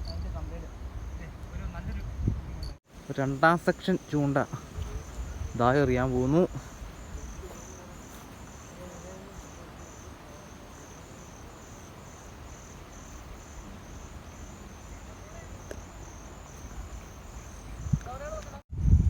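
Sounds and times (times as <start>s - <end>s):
insect chirping: 0.0s - 19.0s
outdoor background noise: 0.0s - 19.0s.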